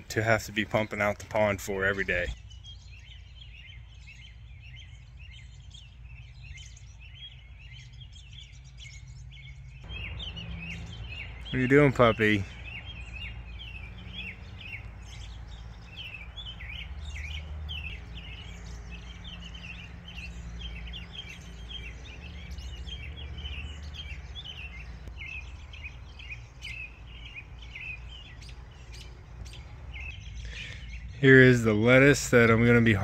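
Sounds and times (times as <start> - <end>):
birds chirping: 0.0 - 33.0
steady low rumble: 1.9 - 32.9.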